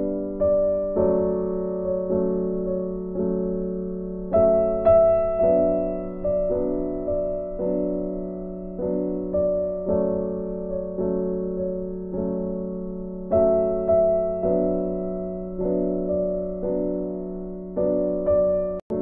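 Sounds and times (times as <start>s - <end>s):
soft piano chords: 0.0s - 19.0s.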